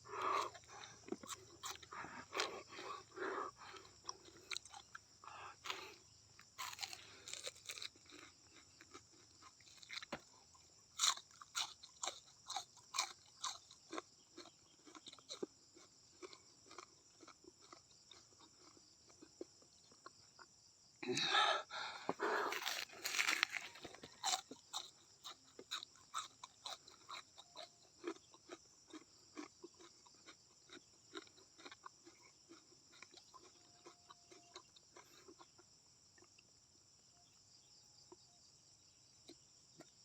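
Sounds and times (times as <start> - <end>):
chewing and crunching: 0.0 - 20.9, 22.0 - 40.0.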